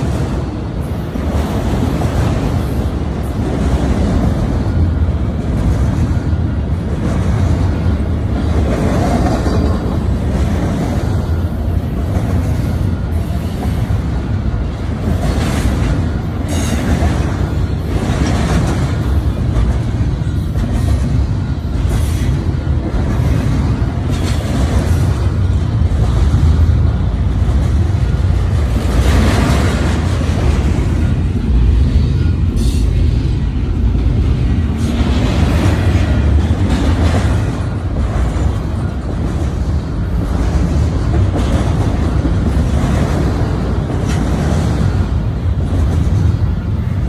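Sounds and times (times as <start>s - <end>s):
rumble of wheels on rail: 0.0s - 47.0s
train wheels clacking on track: 0.0s - 47.0s.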